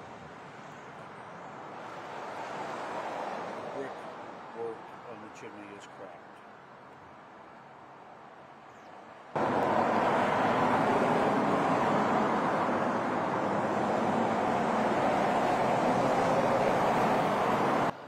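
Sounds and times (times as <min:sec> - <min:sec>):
street ambience rushing: 0:00.0 - 0:18.0.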